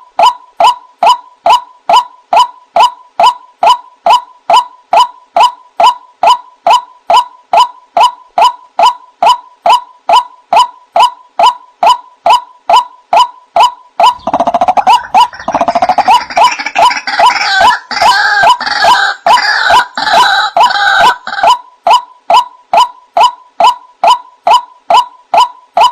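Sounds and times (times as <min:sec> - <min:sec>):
overlapping bird calls with trill: 0:00.2 - 0:25.9.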